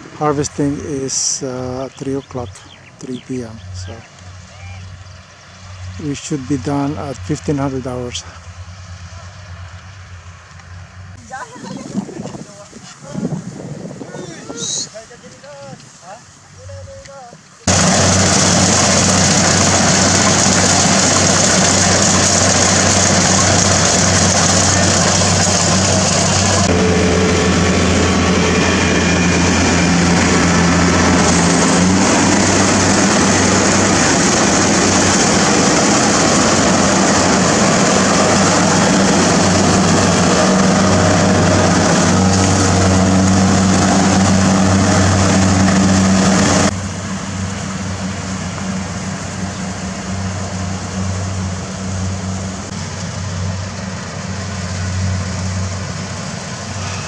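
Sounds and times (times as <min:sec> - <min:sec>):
vehicle engine running: 0:00.0 - 0:12.4, 0:17.7 - 0:57.0.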